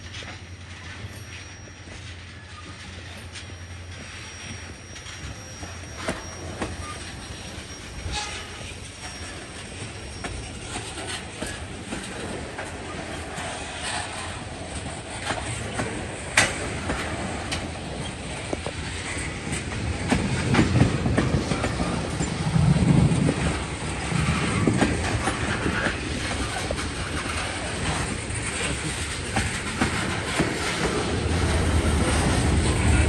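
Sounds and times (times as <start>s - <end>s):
train rolling rumble: 0.0s - 33.0s
train wheels knocking over rail joints: 0.2s - 33.0s.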